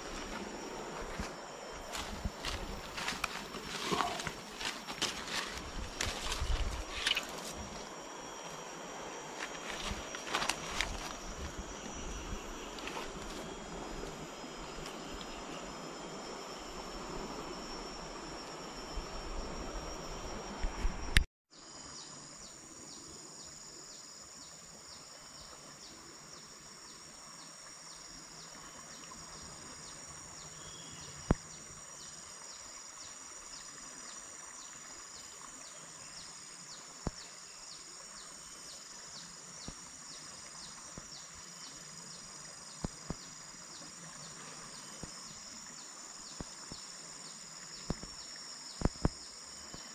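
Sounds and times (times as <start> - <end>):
faint steady hiss: 0.0 - 49.9
insects chirping: 0.0 - 49.9.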